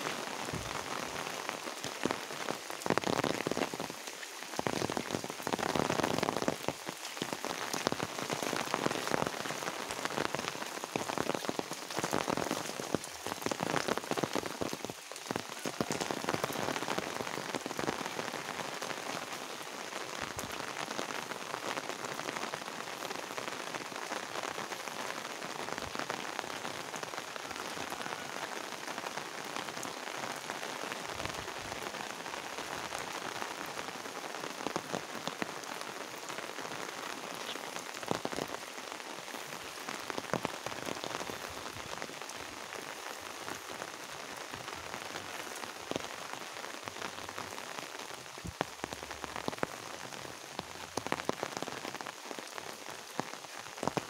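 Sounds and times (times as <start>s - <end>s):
rain pattering on paving: 0.0s - 54.0s.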